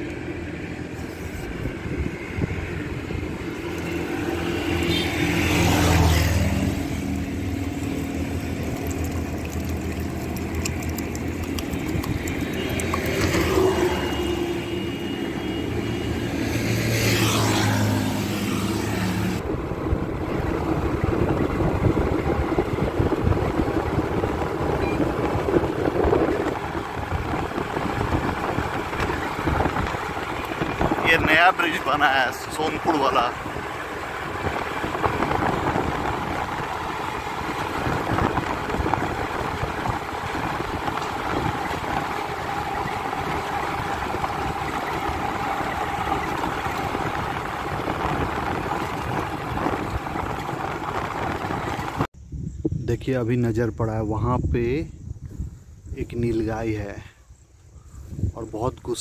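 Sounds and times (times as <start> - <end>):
scooter engine running: 0.0 - 52.1
vehicles passing: 0.0 - 52.1
steady engine hum: 0.0 - 52.2
wind and tyre noise: 0.0 - 59.0.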